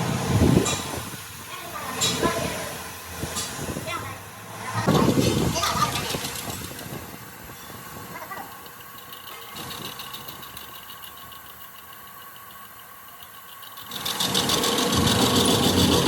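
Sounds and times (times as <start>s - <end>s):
machine motor humming: 0.0s - 16.0s.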